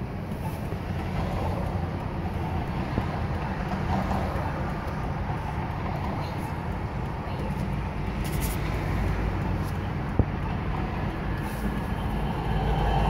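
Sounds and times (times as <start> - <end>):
traffic rumble inside car: 0.0 - 13.0.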